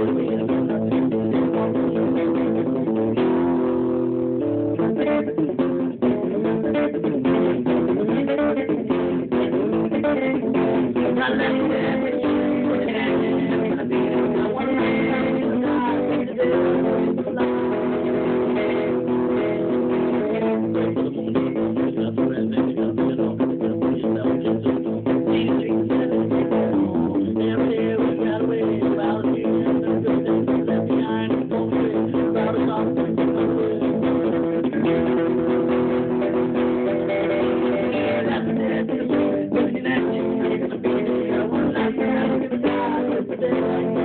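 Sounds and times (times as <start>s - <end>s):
electric guitar notes and chords: 0.0s - 44.0s.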